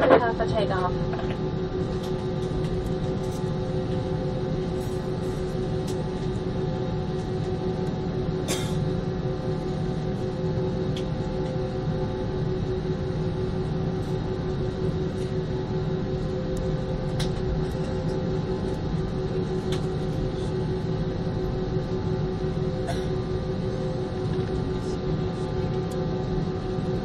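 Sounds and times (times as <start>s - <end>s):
jet engines rumbling and whining: 0.0s - 27.0s.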